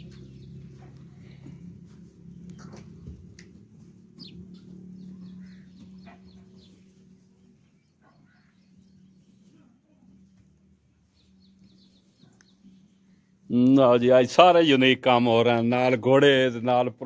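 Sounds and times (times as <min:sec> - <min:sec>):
small birds chirping: 0:00.0 - 0:14.2
diesel engine humming: 0:00.0 - 0:16.6.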